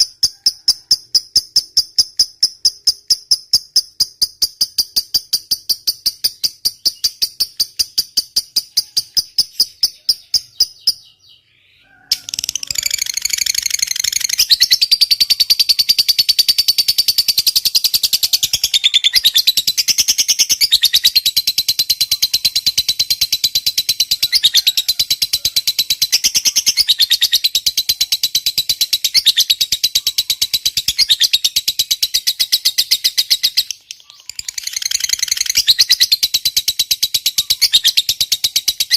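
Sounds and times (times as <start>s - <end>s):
bird shrill chattering trill: 0.0s - 38.9s
high bird chirps: 0.0s - 38.9s.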